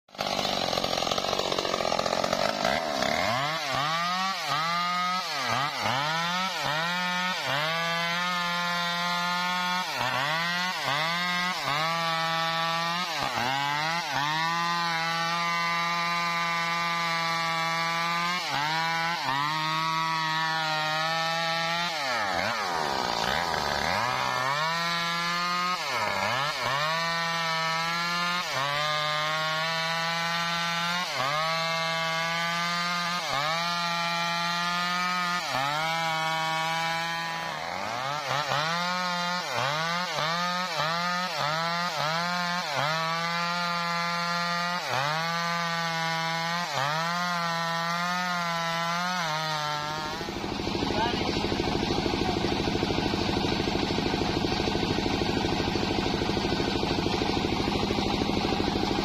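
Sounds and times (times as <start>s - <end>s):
chainsaw cutting wood: 0.1s - 59.0s.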